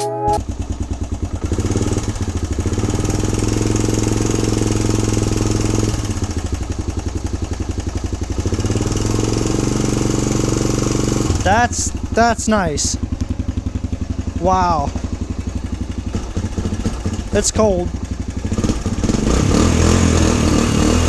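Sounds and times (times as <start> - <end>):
motorcycle engine idling: 0.4 - 21.0.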